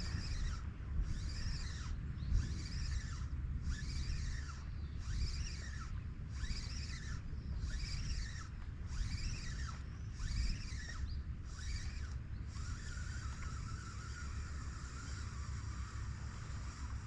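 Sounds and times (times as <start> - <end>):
wavering buzz: 0.0 - 17.0.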